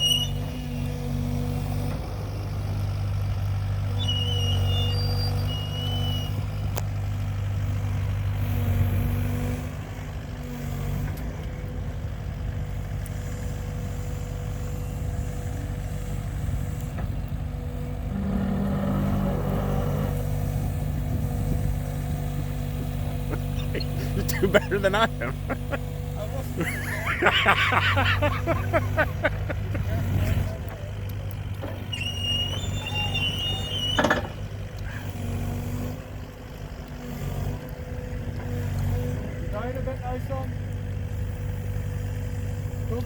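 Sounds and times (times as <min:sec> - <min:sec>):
excavator engine running: 0:00.0 - 0:43.0.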